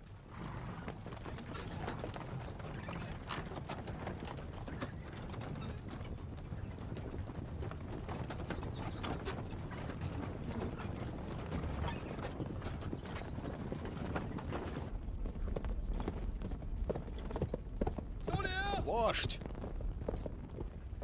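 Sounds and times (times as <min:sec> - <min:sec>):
horse galloping: 0:00.0 - 0:21.0
horse hooves clopping: 0:00.0 - 0:21.0
wooden cart wheels creaking: 0:00.0 - 0:21.0.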